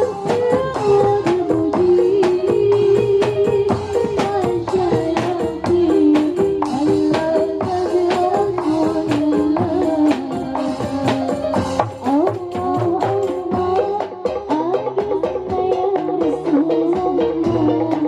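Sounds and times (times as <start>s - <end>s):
frame drums and tambourine beating: 0.0s - 18.0s.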